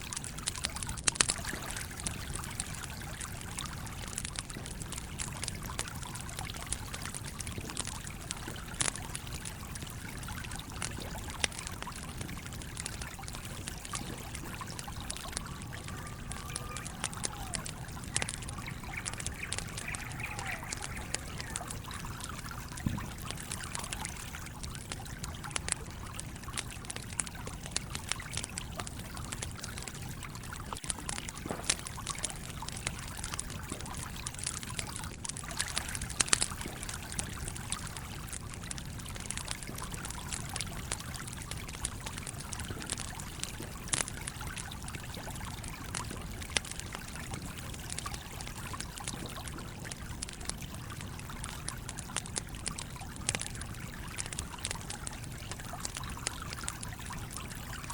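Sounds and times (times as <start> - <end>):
campfire crackling and popping: 0.0 - 57.9
stream flowing and trickling: 0.0 - 57.9.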